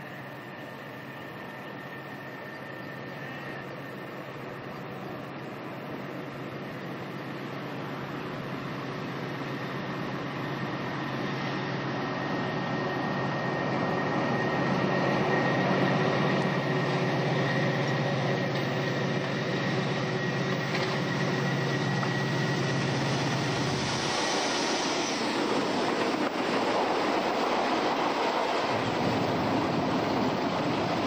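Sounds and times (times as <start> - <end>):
diesel locomotive engine: 0.0 - 31.0.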